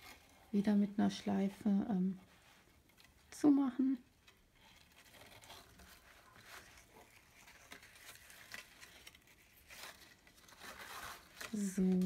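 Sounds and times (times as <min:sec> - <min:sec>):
ribbon and card rustling: 0:00.0 - 0:12.0.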